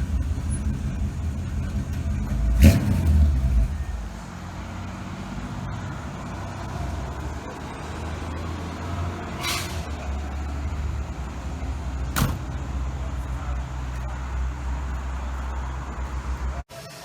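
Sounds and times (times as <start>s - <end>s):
car engine rumbling: 0.0s - 16.6s.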